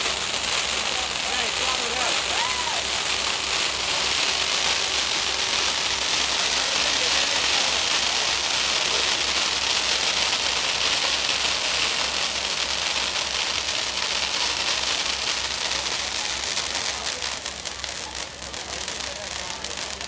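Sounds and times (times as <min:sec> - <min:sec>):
firecrackers crackling and popping: 0:00.0 - 0:20.0.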